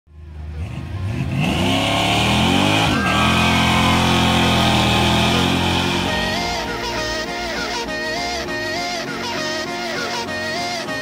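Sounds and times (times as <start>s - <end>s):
car engine revving: 0.1s - 9.0s.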